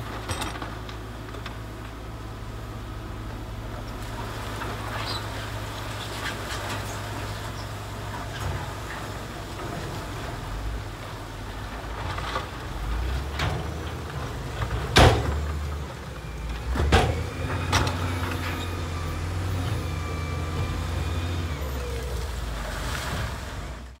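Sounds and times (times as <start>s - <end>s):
heavy machine diesel engine: 0.0s - 24.0s.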